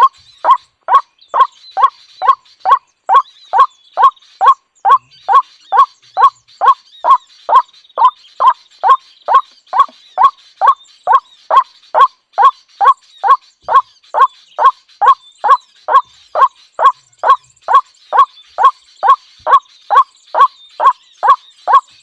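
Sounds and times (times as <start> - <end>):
faint high chirping: 0.0 - 22.0.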